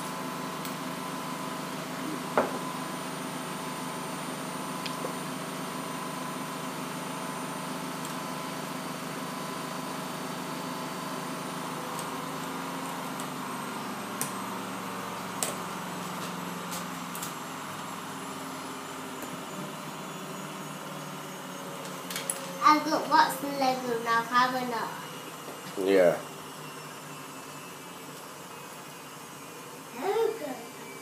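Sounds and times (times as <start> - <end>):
room hum: 0.0 - 31.0.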